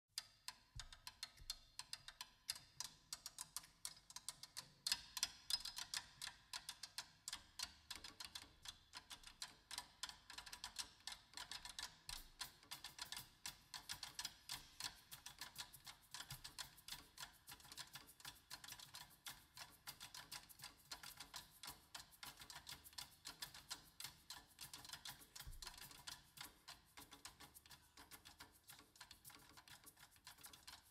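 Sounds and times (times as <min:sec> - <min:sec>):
percussion clicks and taps: 0:00.2 - 0:30.9.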